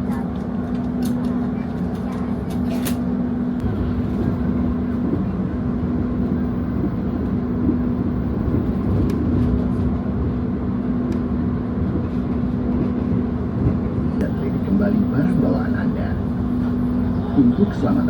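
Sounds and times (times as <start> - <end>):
train carriage rumble: 0.0 - 18.0.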